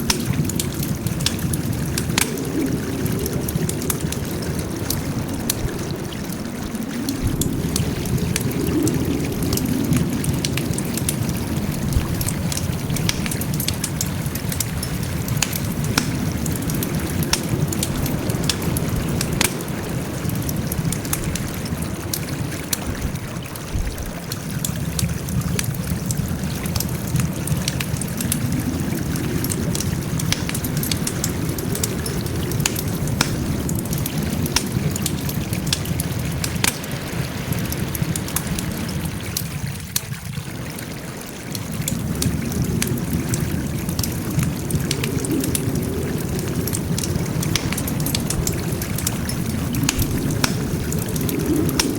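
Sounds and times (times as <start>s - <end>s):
campfire crackling and popping: 0.0s - 51.9s
low rush of flame: 0.0s - 51.9s.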